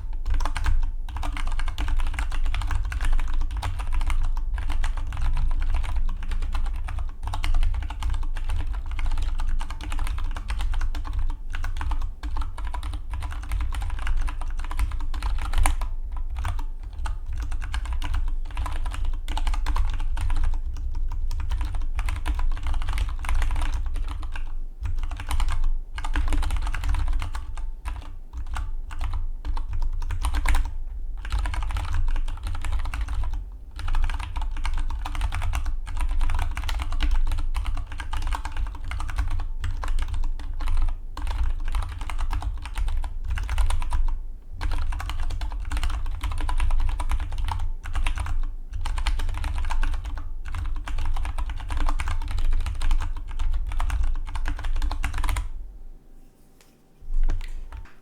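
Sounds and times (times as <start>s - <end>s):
mechanical keyboard typing: 0.1s - 55.5s, 57.2s - 57.9s.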